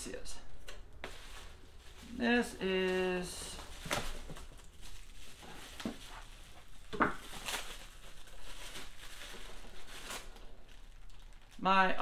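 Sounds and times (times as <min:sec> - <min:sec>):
plastic bag crinkling: 0:00.9 - 0:12.0.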